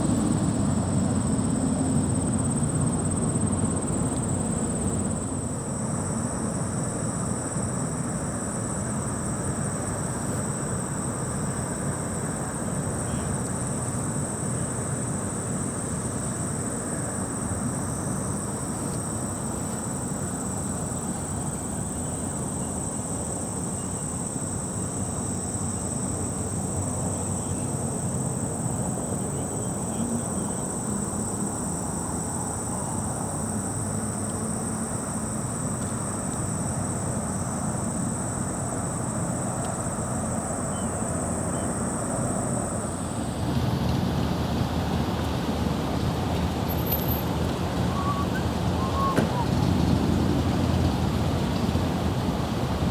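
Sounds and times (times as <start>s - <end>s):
insect chorus trilling: 0.3s - 52.9s.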